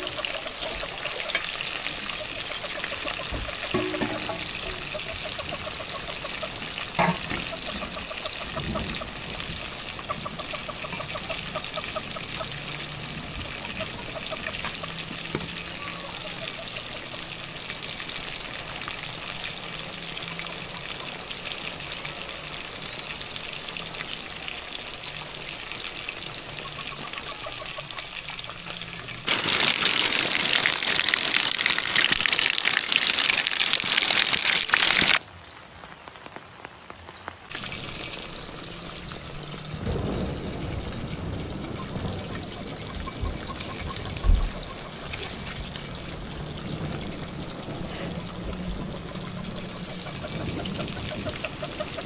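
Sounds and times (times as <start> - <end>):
food sizzling in hot oil: 0.0 - 35.2, 37.4 - 52.0.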